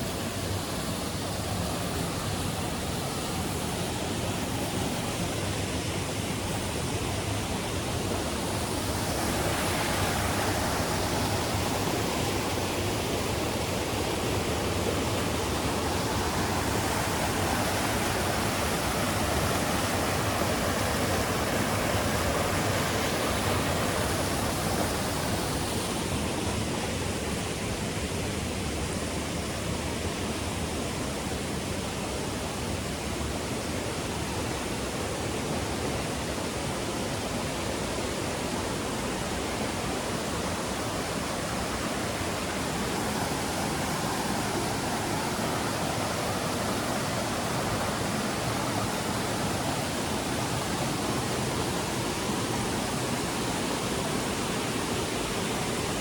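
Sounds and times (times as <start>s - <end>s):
waterfall rushing: 0.0s - 28.3s, 30.3s - 56.0s.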